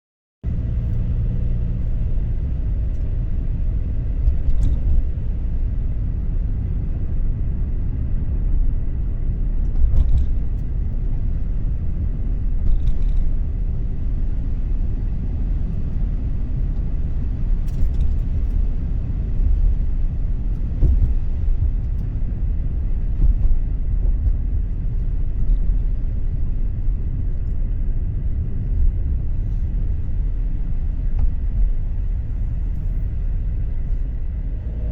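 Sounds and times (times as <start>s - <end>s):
car road and engine rumble: 0.4s - 34.9s.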